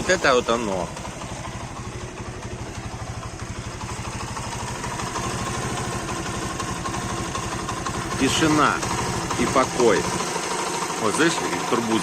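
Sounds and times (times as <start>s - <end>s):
moped engine idling: 0.0s - 12.0s.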